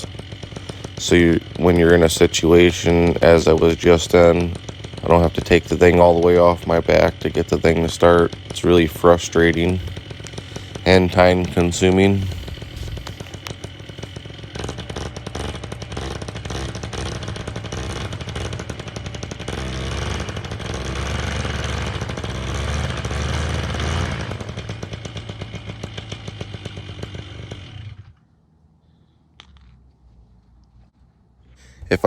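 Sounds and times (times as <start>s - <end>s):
paramotor engine running: 0.0s - 32.0s.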